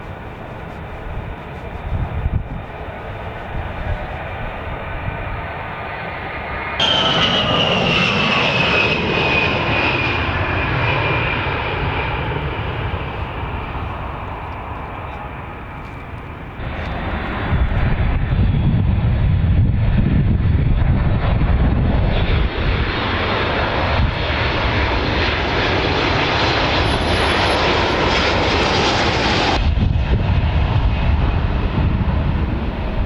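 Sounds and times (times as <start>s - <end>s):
jet engine rumble and whine: 0.0s - 33.0s.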